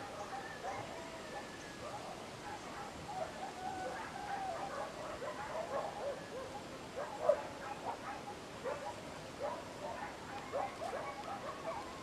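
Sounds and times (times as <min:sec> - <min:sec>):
animal calls and yelps: 0:00.0 - 0:12.0
steady outdoor hiss: 0:00.0 - 0:12.0.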